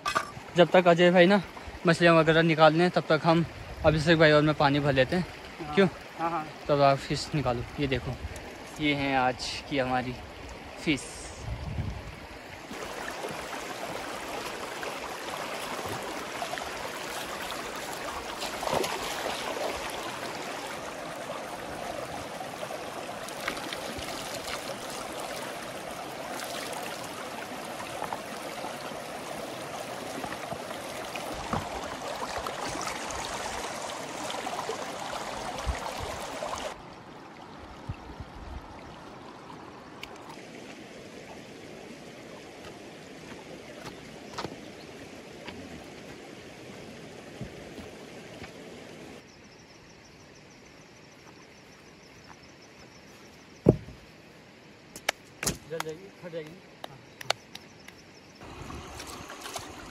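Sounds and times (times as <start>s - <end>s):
river water flowing: 0.0s - 49.3s, 52.8s - 59.9s.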